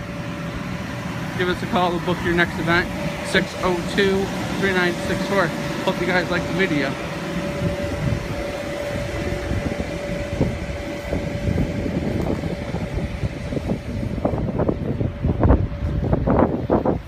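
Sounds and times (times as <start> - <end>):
electric blower fan humming: 0.0 - 17.0
steady tone: 0.0 - 17.0.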